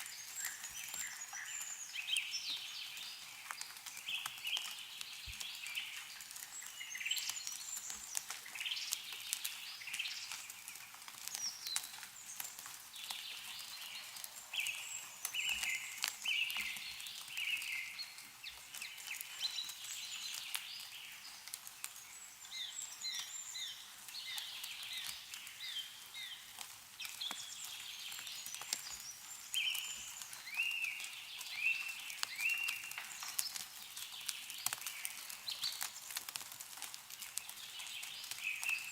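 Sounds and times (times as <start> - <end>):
songbirds singing: 0.0 - 38.9
water dripping from trees: 0.0 - 38.9.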